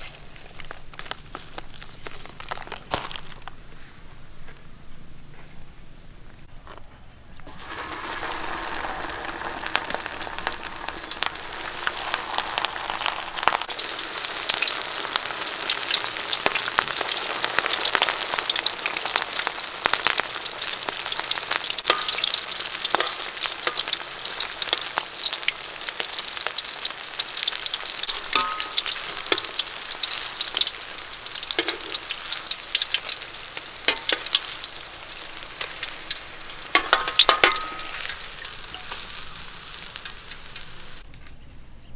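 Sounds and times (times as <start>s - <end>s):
chicken deep-frying with crackling pops: 0.0s - 3.6s, 7.4s - 41.1s.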